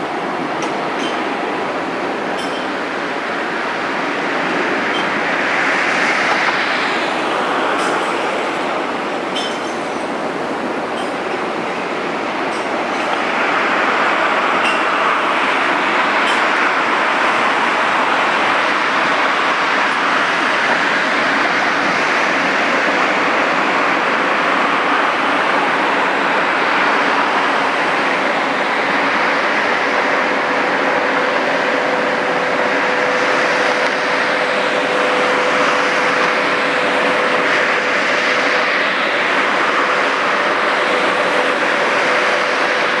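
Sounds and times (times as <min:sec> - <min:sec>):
machinery rushing hum: 0:00.0 - 0:43.0.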